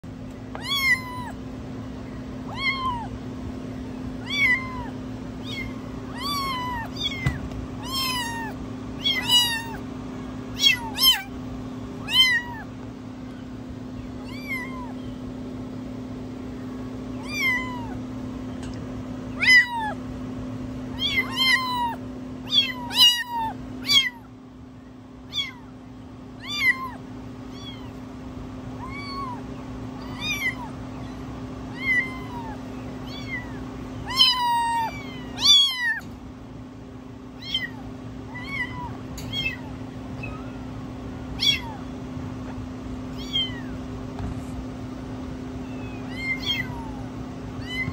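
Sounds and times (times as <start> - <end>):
steady low hum: 0.0 - 47.9
kittens meowing: 0.4 - 15.3, 17.0 - 18.6, 19.2 - 20.0, 20.8 - 24.4, 25.2 - 28.1, 28.7 - 36.2, 37.2 - 43.9, 45.4 - 47.9.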